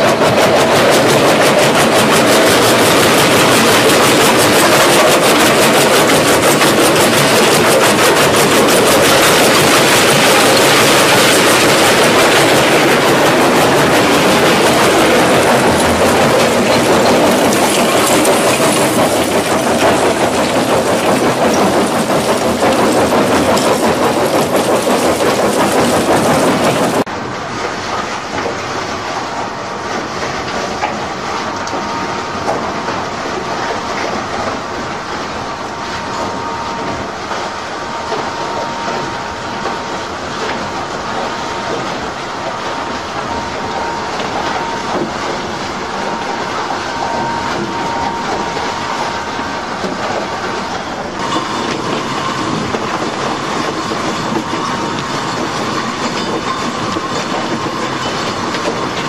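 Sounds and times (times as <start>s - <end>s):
crushing machine grinding and clattering: 0.0s - 59.0s
dull machine noise with hum: 0.0s - 59.0s.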